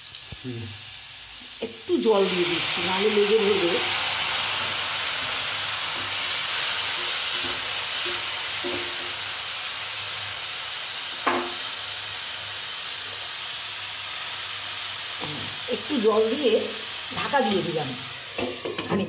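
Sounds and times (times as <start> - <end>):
water hissing in hot oil: 0.0 - 19.0.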